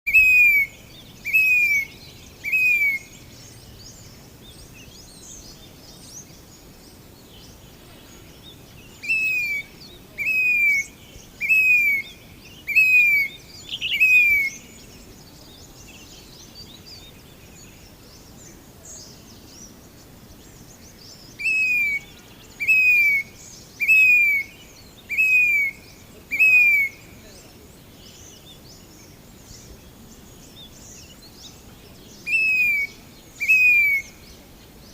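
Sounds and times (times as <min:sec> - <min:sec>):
cuckoo whistled calls: 0:00.1 - 0:03.7, 0:07.4 - 0:19.8, 0:20.8 - 0:28.7, 0:30.6 - 0:34.9
birds chirping: 0:00.1 - 0:34.9.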